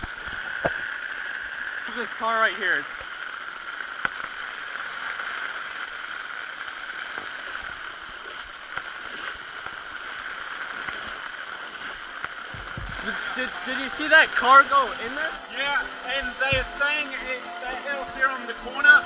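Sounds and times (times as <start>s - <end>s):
rain falling on street: 1.7s - 19.0s.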